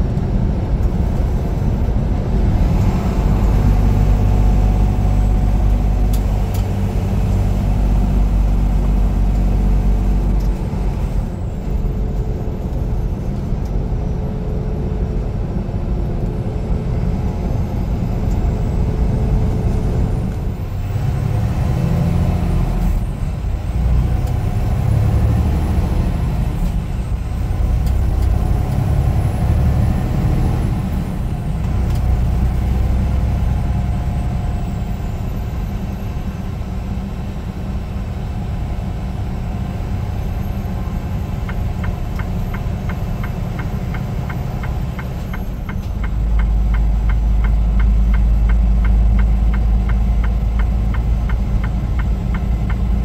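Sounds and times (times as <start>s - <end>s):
road noise: 0.0s - 53.0s
truck diesel engine drone: 0.0s - 53.0s.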